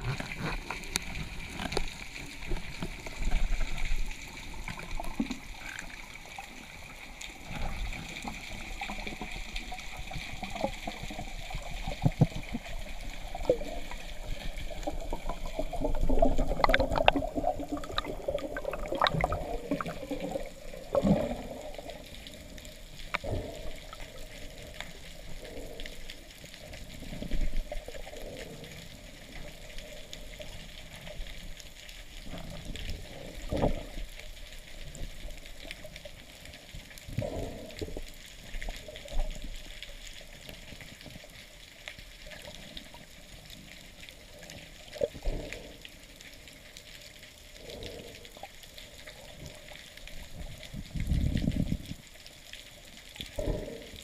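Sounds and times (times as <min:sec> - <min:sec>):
water sloshing underwater: 0:00.0 - 0:54.0.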